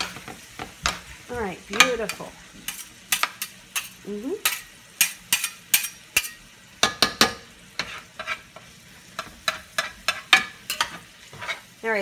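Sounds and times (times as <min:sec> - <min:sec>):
utensils scraping a frying pan: 0:00.0 - 0:11.9
meat sizzling: 0:00.0 - 0:12.0.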